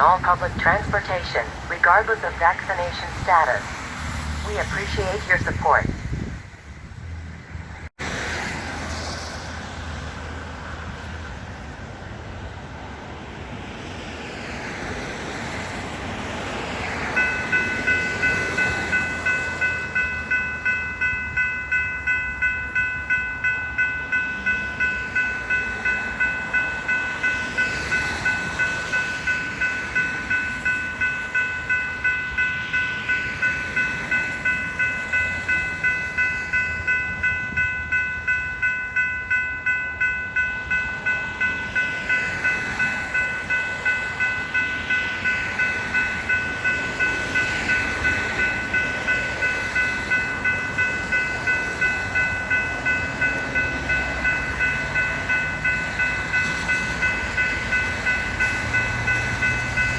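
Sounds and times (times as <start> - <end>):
railroad crossing bell ringing: 0.0 - 7.0, 8.0 - 59.9
passing traffic: 0.0 - 59.9.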